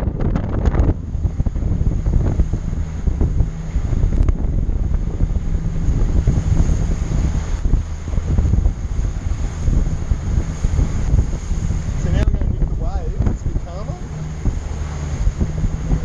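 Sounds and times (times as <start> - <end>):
boat engine humming: 0.0 - 16.0
wind buffeting microphone: 0.0 - 16.0.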